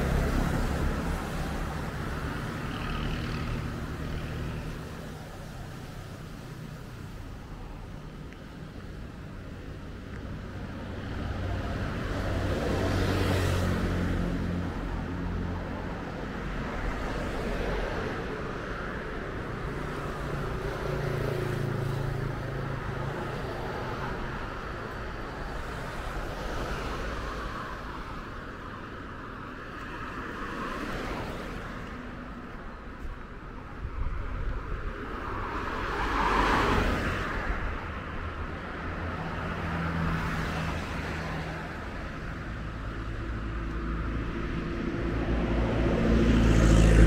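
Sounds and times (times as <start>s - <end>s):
vehicles passing: 0.0s - 47.0s.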